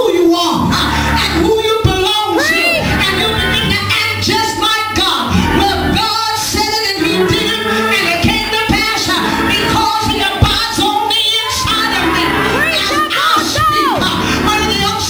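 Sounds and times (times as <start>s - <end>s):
person singing with music: 0.0s - 15.0s.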